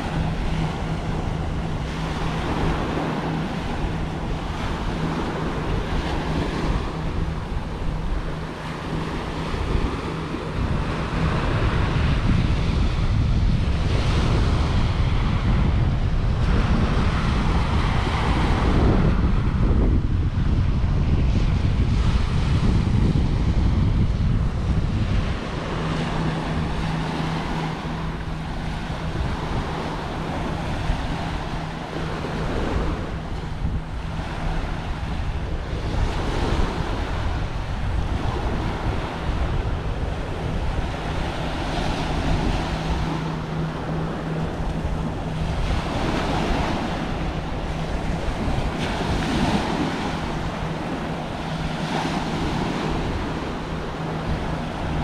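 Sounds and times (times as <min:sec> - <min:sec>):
steady low hum: 0:00.0 - 0:55.0
surf washing up beach: 0:00.0 - 0:55.0
wind rumbling on microphone: 0:00.0 - 0:55.0.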